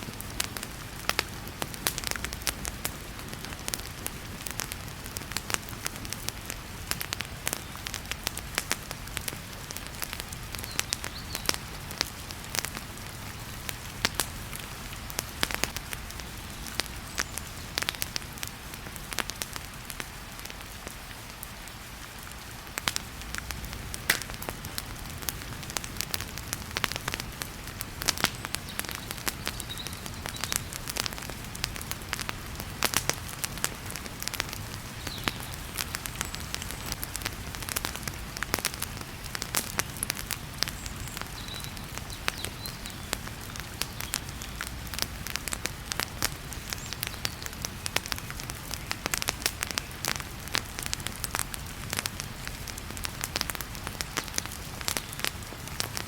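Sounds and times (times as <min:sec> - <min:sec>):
heavy rain hiss: 0:00.0 - 0:56.0
wood fire crackling and popping: 0:00.0 - 0:56.0.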